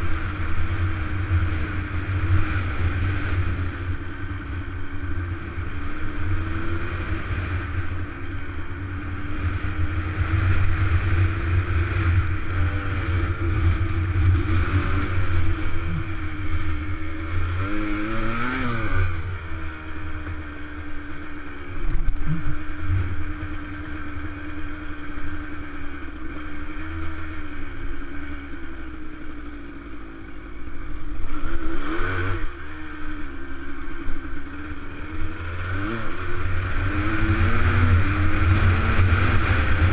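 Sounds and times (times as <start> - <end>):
wind rumble on microphone: 0.0 - 29.5, 30.4 - 39.9
dirt bike engine running: 0.0 - 39.9.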